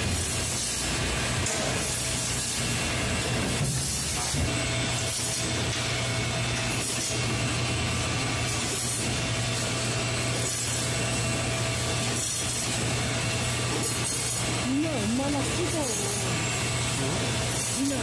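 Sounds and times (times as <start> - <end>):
processing line machinery: 0.0 - 18.0.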